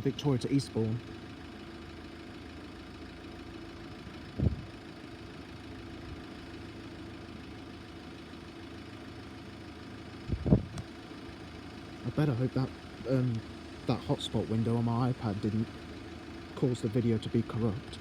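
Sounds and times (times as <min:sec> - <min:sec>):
vehicle idling hum: 0:00.0 - 0:18.0.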